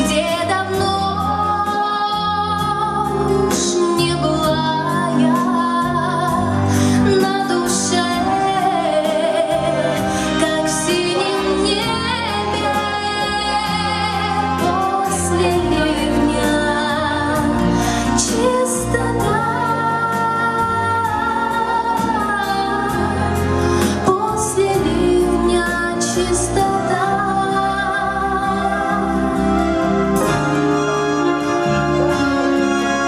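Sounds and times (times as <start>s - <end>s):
woman singing a pop ballad: 0.0s - 30.4s.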